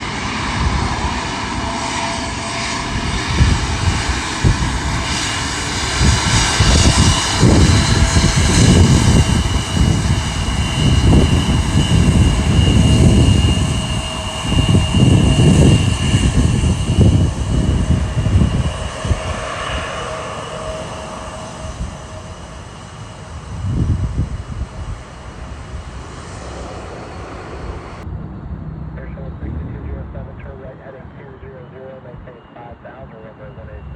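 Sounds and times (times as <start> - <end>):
jet engines whining and rumbling: 0.0 - 33.9.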